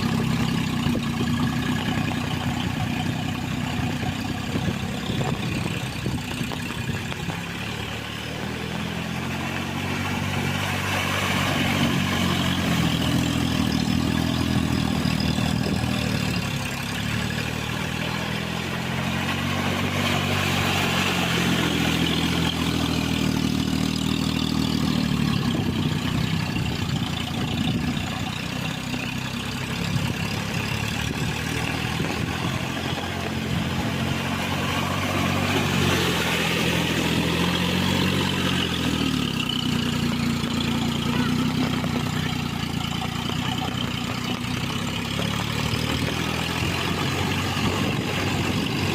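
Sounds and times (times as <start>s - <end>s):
rotavator working: 0.0s - 48.9s
tractor engine running: 0.0s - 48.9s.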